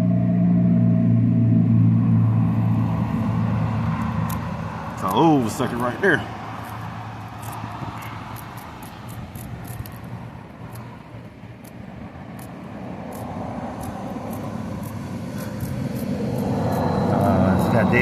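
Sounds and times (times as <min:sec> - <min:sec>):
road noise: 0:00.0 - 0:18.0
vehicle engine rumble: 0:00.0 - 0:18.0.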